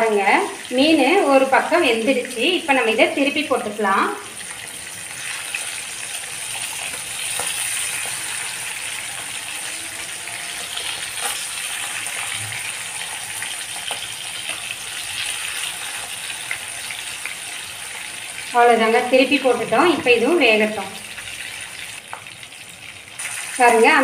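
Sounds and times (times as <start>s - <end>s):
fish sizzling in oil: 0.0s - 24.0s.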